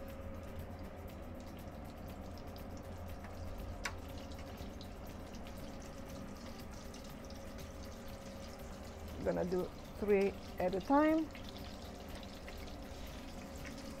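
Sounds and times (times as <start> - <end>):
low hum: 0.0 - 14.0
oil crackling sizzle: 0.0 - 14.0.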